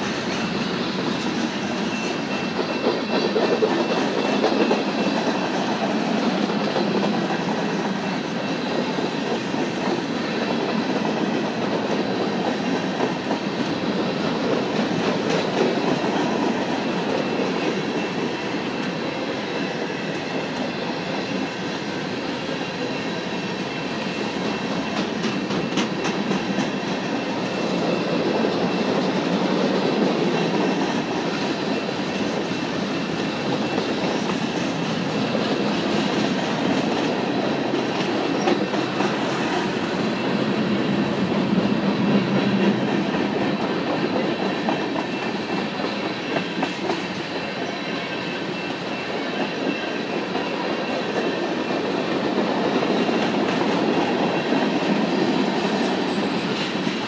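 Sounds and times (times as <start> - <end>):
clickety-clack of rail joints: 0.0 - 57.0
freight train wheels rumbling on rail: 0.0 - 57.0.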